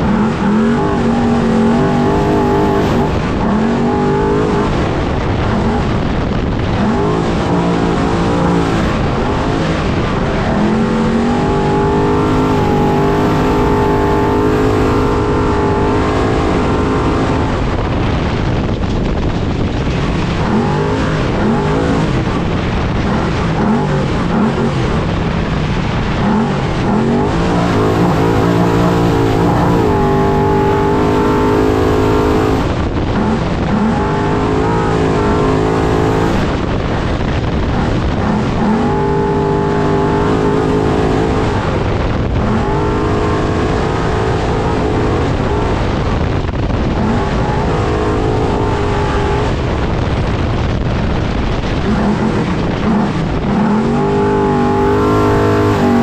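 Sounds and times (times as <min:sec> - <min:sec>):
race engine revving: 0:00.0 - 0:56.0
wind rush: 0:00.0 - 0:56.0.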